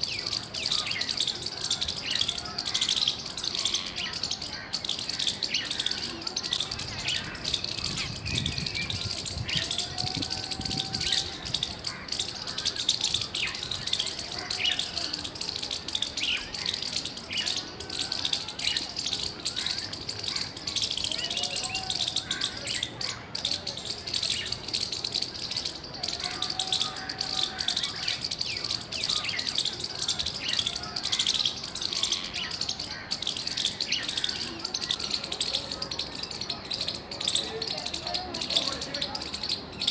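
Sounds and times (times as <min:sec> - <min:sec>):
squirrel chirping: 0:00.0 - 0:39.9.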